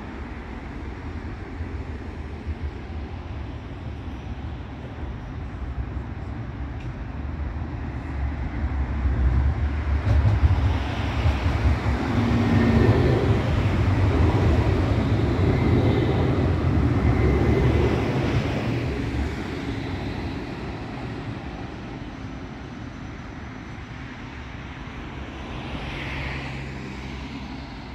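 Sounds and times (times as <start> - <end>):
faint tram whine: 0.0 - 27.9
tram wheels rumbling on rails: 0.0 - 27.9.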